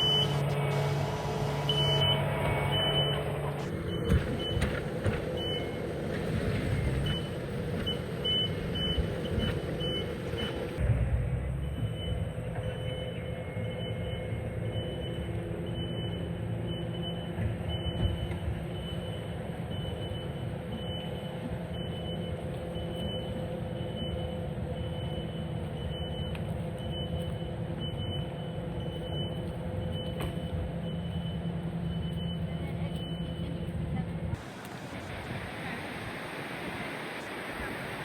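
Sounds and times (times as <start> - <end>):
reversing alarm beeps: 0.0 - 10.8, 11.5 - 33.8
diesel engine running: 0.0 - 38.0.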